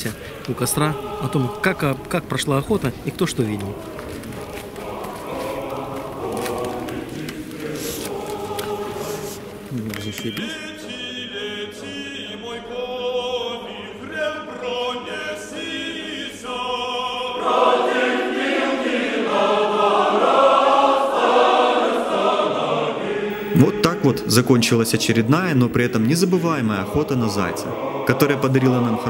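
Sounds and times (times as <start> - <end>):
choir singing folk song: 0.0 - 29.0.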